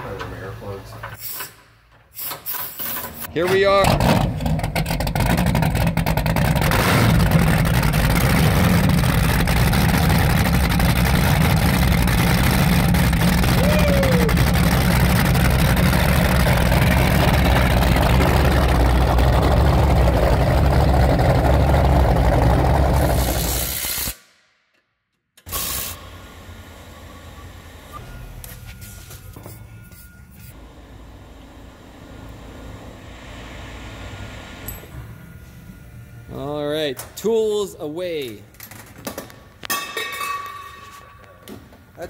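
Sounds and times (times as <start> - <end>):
engine humming steadily: 3.3 - 23.8, 25.6 - 39.8.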